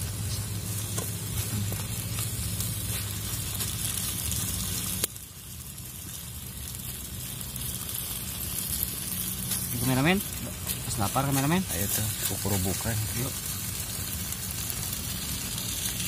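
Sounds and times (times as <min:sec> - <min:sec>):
mushrooms sizzling in pan: 0:00.0 - 0:16.0.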